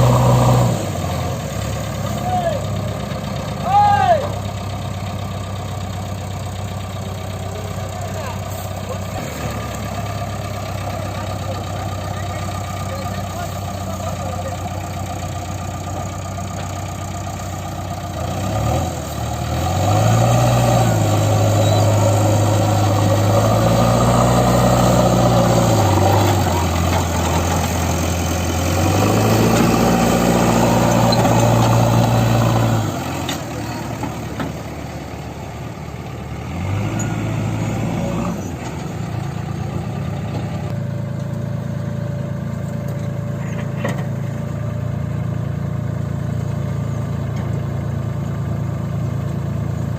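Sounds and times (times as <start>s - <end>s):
heavy diesel engine revving: 0.0s - 49.9s.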